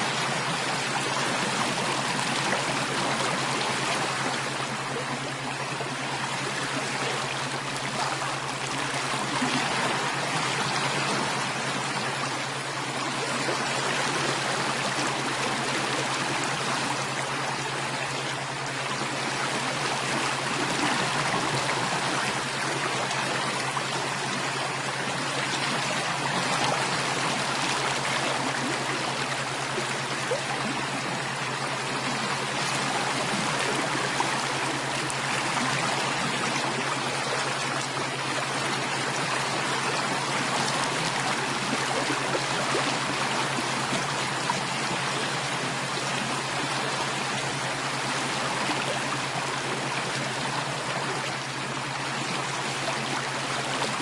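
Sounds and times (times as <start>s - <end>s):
running water flowing: 0.0s - 54.0s.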